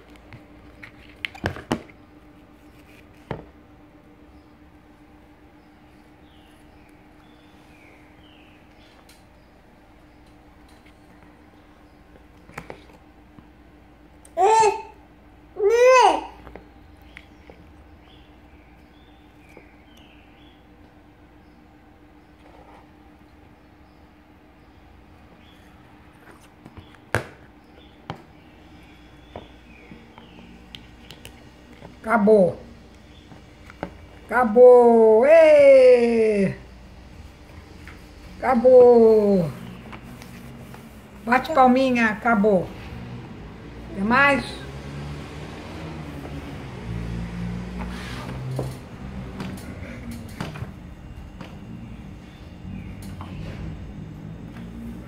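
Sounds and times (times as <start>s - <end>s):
faint steady hum: 0.0s - 45.3s.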